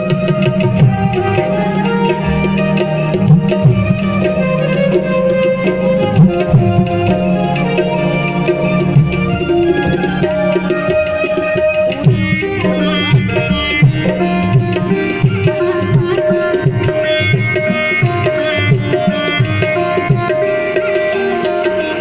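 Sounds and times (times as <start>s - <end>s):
plucked string melody: 0.0s - 22.0s
tabla beat: 0.0s - 22.0s.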